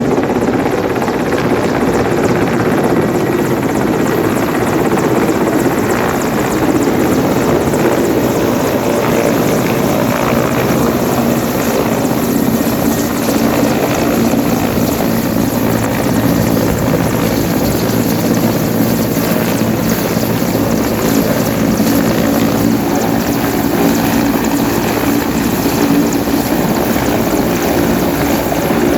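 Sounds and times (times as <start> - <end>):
helicopter rotor and engine: 0.0 - 28.9.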